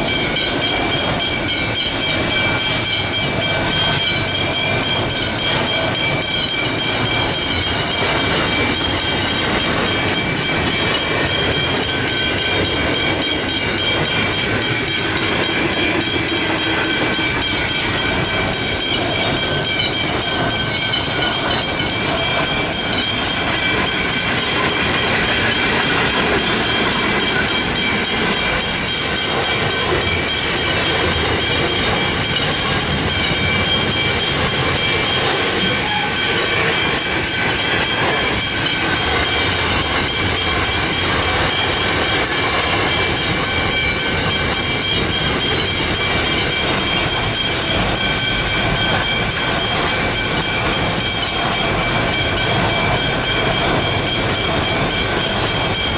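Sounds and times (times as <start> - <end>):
train rolling past: 0.0 - 55.9.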